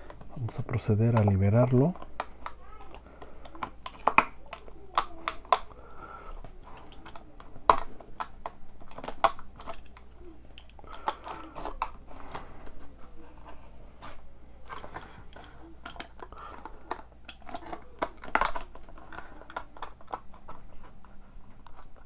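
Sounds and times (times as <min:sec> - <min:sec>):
plastic blister pack being opened: 0:00.0 - 0:22.0.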